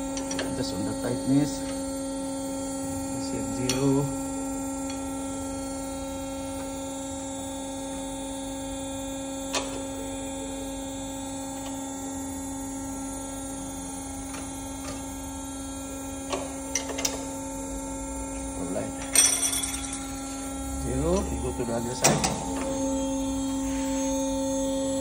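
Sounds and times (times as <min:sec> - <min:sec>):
machine shop hum: 0:00.0 - 0:25.0.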